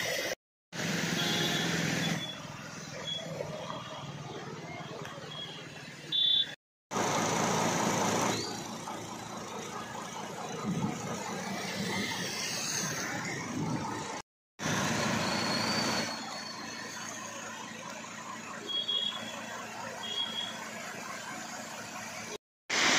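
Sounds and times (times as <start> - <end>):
vehicle engines running: 0.8 - 6.2, 6.9 - 22.4.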